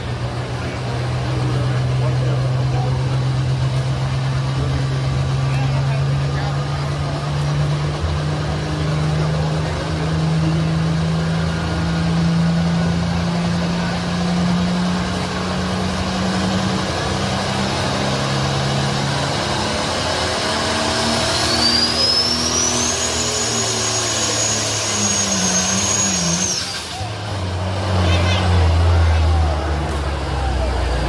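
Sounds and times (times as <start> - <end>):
tractor engine running hard: 0.0 - 31.0.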